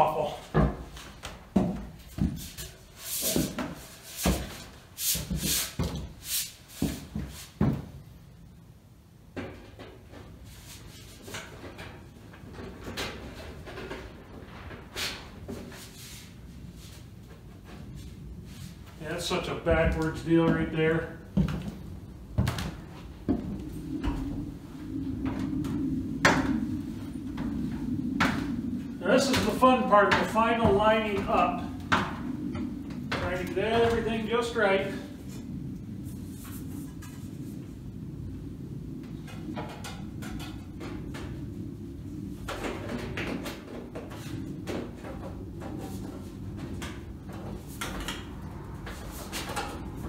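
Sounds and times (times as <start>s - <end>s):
low steady hum: 7.7s - 50.0s.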